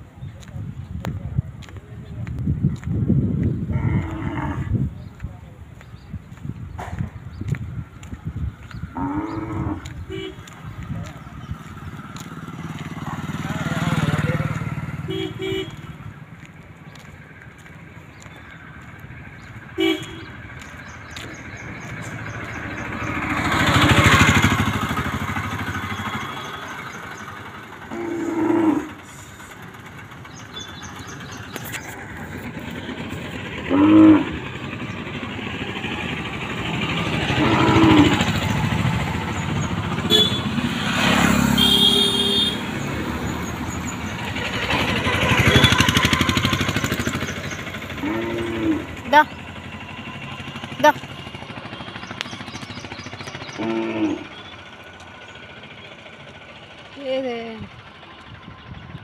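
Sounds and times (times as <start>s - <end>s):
vehicles passing on road: 0.0s - 59.0s.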